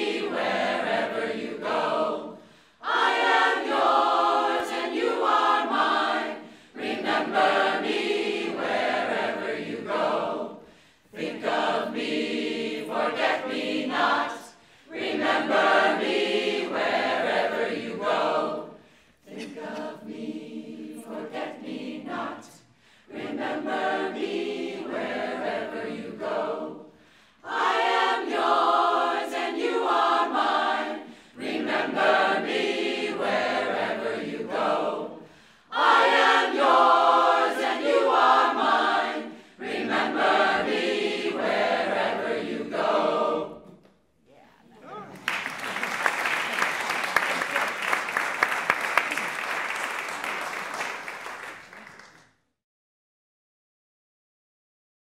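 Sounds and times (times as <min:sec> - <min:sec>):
mixed choir singing a cappella: 0:00.0 - 0:44.1.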